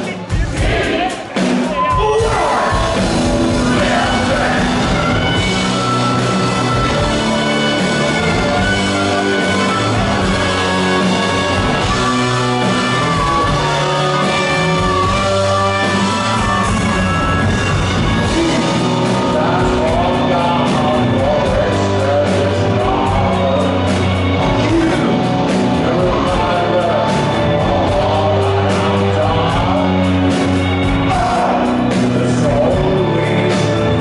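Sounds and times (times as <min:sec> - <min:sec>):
man singing: 0:00.0 - 0:06.0, 0:06.7 - 0:34.0
rock band playing live: 0:00.0 - 0:34.0.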